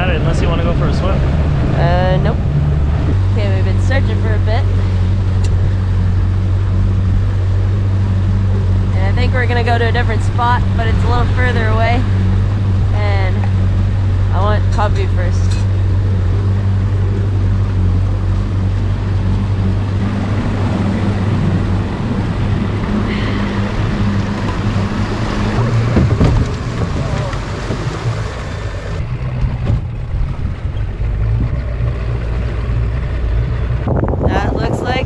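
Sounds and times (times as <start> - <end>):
hull knocking and scraping: 0.0 - 35.0
motorboat engine running: 0.0 - 35.0
water noise: 0.0 - 35.0
wind: 0.0 - 35.0.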